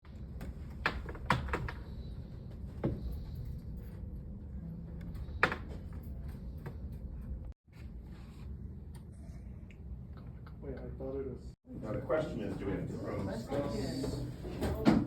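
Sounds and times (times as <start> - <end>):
steady low hum: 0.1 - 14.5.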